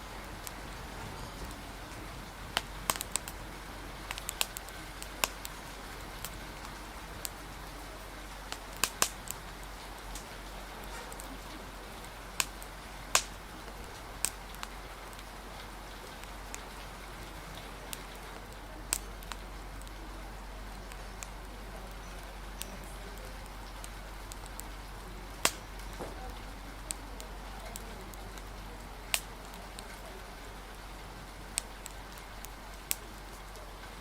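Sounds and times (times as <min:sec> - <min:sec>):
rain hiss: 0:00.0 - 0:34.0
wood fire crackling and popping: 0:00.0 - 0:34.0.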